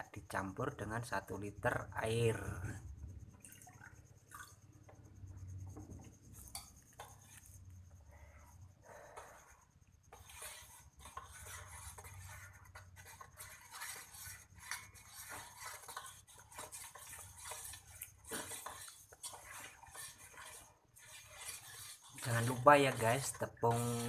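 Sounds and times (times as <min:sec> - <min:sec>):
spoon stirring liquid in pot: 0:00.0 - 0:24.0.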